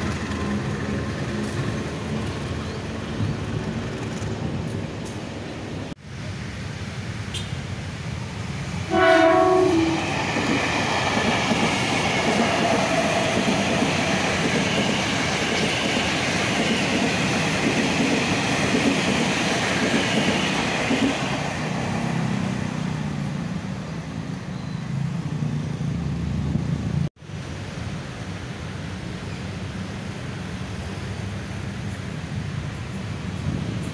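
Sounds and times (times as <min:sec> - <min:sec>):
train passing close by: 0:00.0 - 0:33.9.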